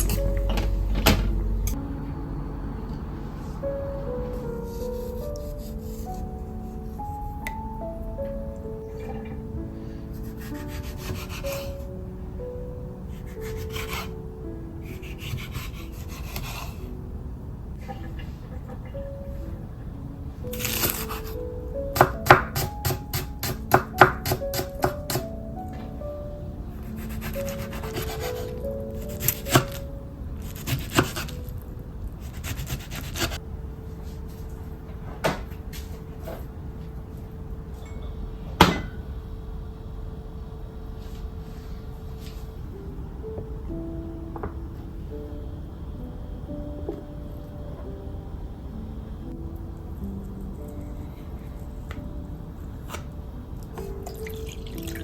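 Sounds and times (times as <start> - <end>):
soft background music: 0.0 - 55.0.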